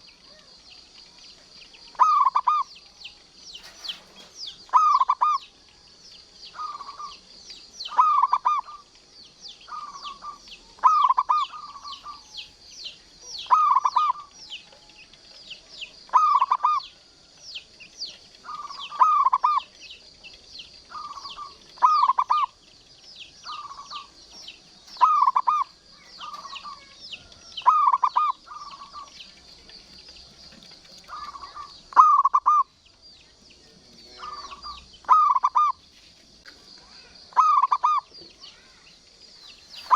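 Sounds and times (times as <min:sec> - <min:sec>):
dove cooing: 0:00.0 - 0:05.8, 0:06.5 - 0:07.3, 0:07.9 - 0:09.0, 0:09.6 - 0:12.6, 0:13.2 - 0:17.3, 0:18.2 - 0:20.1, 0:20.8 - 0:22.8, 0:23.4 - 0:32.8, 0:33.7 - 0:35.8, 0:36.8 - 0:38.8
faint high chirps: 0:00.0 - 0:39.9.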